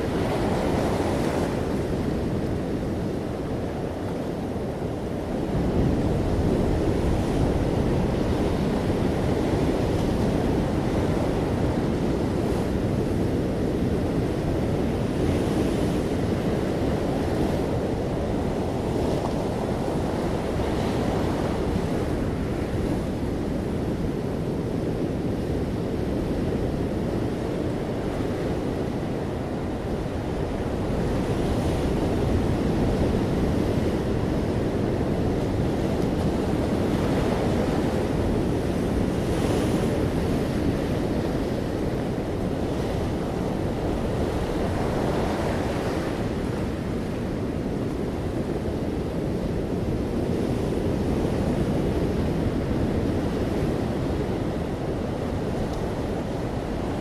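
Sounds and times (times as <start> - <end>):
ocean waves breaking on beach: 0.0 - 57.0
wind rumble on microphone: 0.0 - 57.0.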